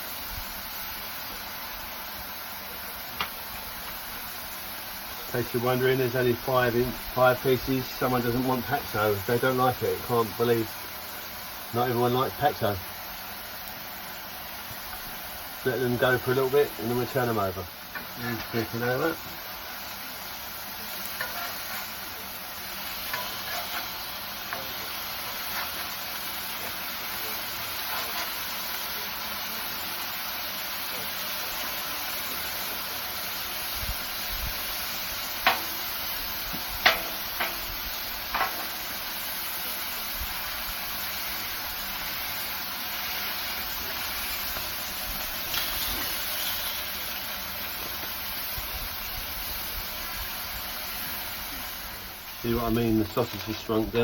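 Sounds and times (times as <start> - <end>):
patties sizzling on griddle: 0.0 - 54.0.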